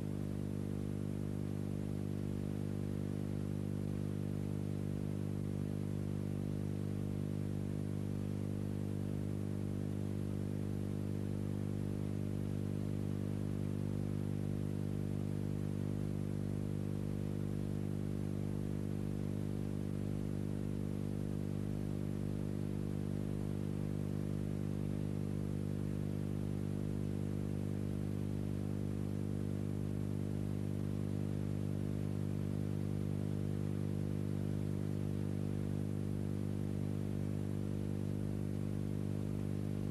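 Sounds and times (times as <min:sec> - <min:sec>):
low buzzing hum: 0:00.0 - 0:39.9.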